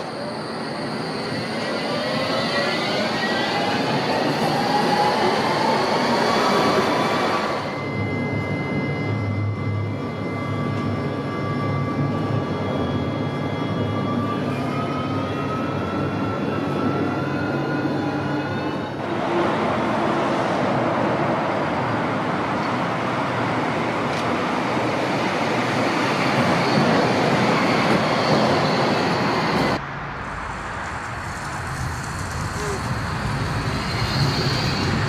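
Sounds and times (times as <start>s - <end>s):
tram passing on track: 0.0s - 35.0s.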